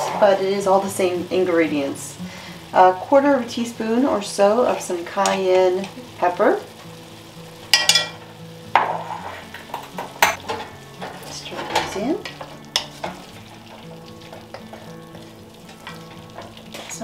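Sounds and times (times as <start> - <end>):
meat sizzling: 0.0 - 17.0.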